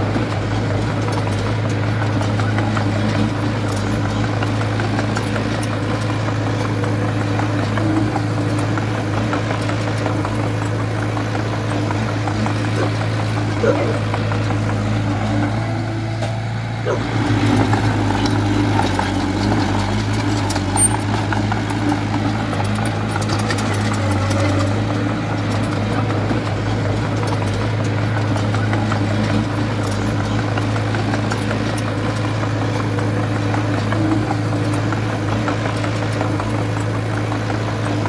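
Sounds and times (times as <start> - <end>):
bulldozer diesel engine droning: 0.0 - 38.0.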